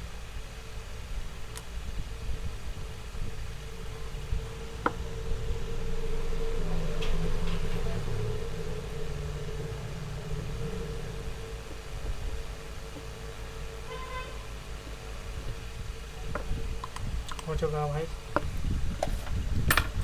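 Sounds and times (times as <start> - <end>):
ceiling fan humming: 0.0 - 20.0
road traffic rumble: 0.0 - 20.0.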